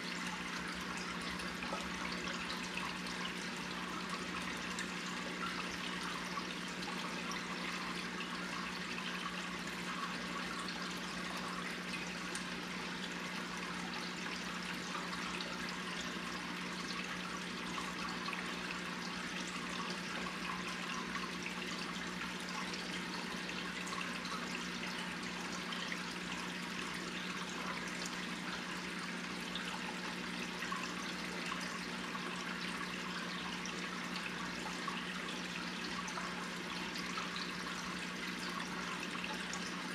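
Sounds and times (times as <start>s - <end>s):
aquarium water trickling and bubbling: 0.0s - 39.9s
filter pump hum: 0.0s - 39.9s.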